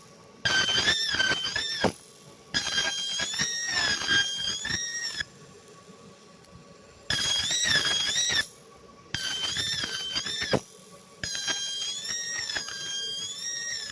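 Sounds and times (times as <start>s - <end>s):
laser high-pitched whine: 0.0s - 6.2s, 7.1s - 13.9s.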